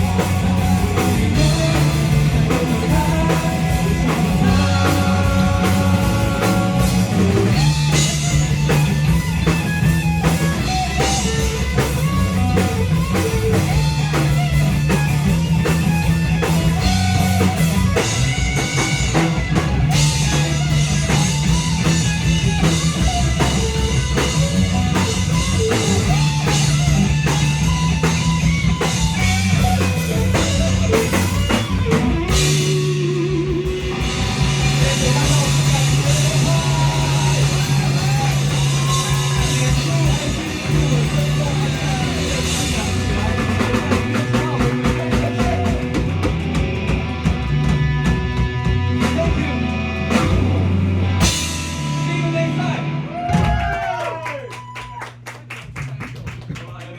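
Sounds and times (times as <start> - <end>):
electric guitar: 0.0 - 55.0
bass guitar: 0.0 - 56.8
drum kit: 0.0 - 56.9.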